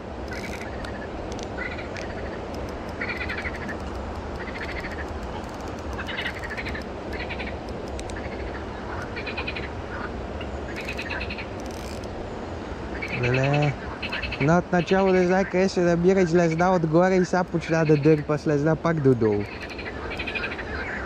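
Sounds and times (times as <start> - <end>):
low rushing background: 0.0 - 21.0
frogs calling in rattling trills: 0.3 - 21.0.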